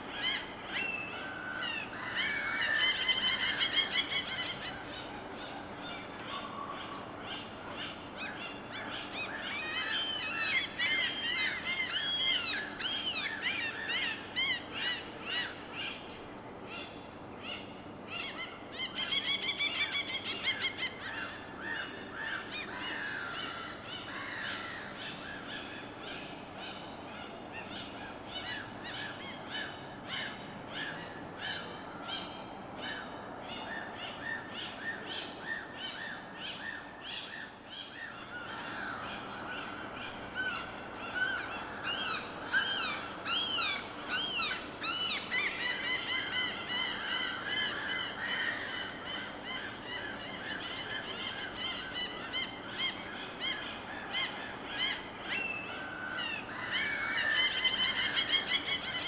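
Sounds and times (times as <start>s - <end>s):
birds calling: 0.0s - 16.0s, 16.8s - 59.0s.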